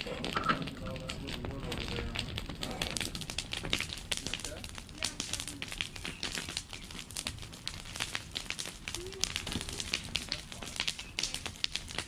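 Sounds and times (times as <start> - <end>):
fire popping and snapping: 0.0 - 12.0
wood bonfire crackling: 0.0 - 12.0.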